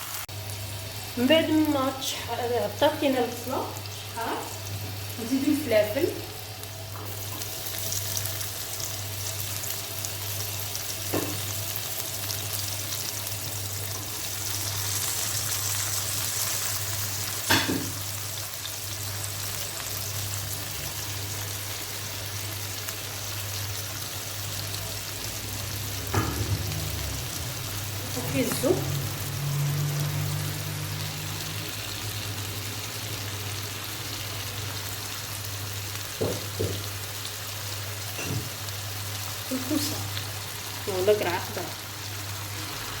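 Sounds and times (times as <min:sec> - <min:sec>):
vegetables sizzling in oil: 0:00.0 - 0:43.0.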